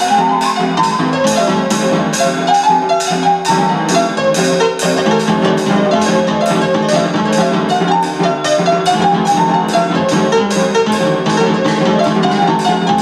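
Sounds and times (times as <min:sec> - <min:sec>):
cymbal and snare drum beat: 0:00.0 - 0:13.0
electronic keyboard melody: 0:00.0 - 0:13.0.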